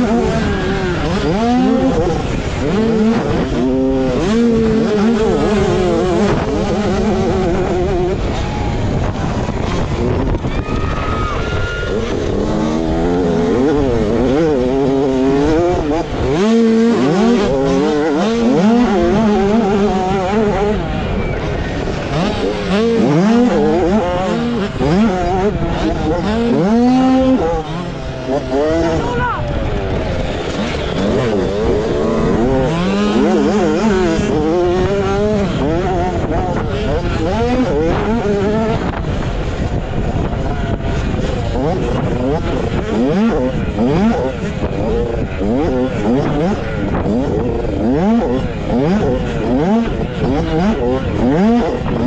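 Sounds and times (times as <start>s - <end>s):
motocross bike engine revving: 0.0s - 52.0s
second bike engine alongside: 0.0s - 52.0s.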